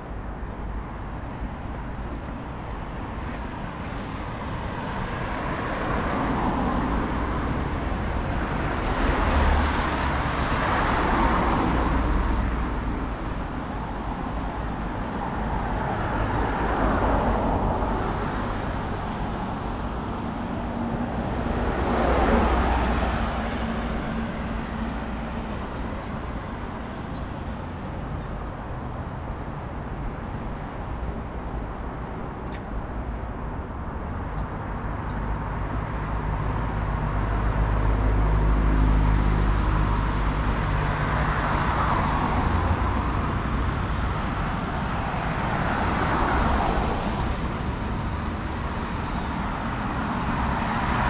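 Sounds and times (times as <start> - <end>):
cars passing: 0.0 - 51.0
low rumble of traffic: 0.0 - 51.0.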